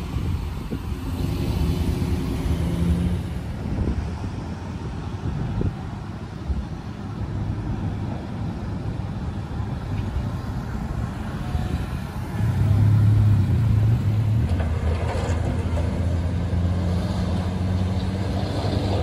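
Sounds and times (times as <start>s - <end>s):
road traffic rumble: 0.0s - 19.0s
vehicle engine hum: 0.0s - 19.0s.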